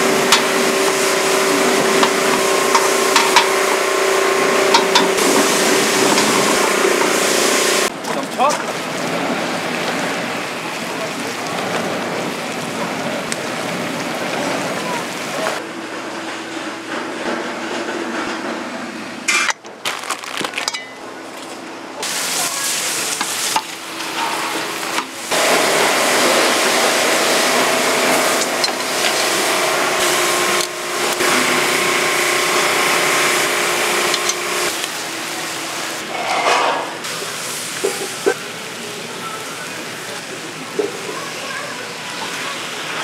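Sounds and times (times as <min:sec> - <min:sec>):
stew sizzling and bubbling: 0:00.0 - 0:16.9, 0:21.4 - 0:43.0.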